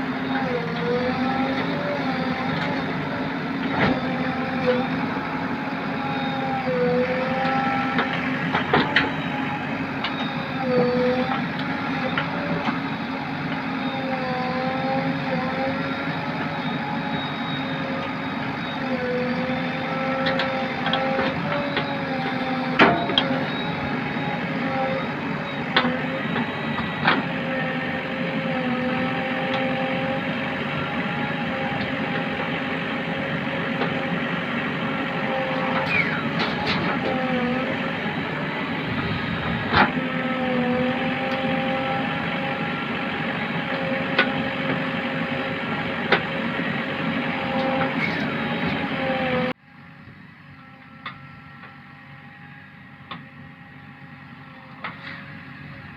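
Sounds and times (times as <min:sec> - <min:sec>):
diesel engine running under load: 0:00.0 - 0:55.9.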